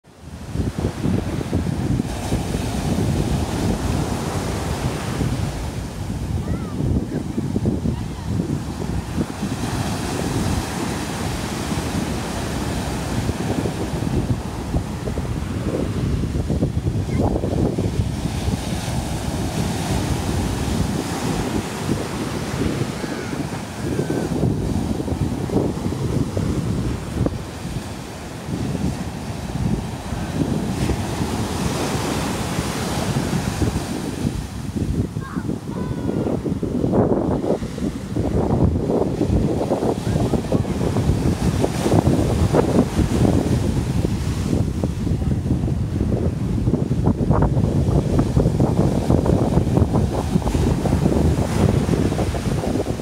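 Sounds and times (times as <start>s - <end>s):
ocean surf breaking: 0.1s - 53.0s
wind buffeting microphone: 0.1s - 53.0s.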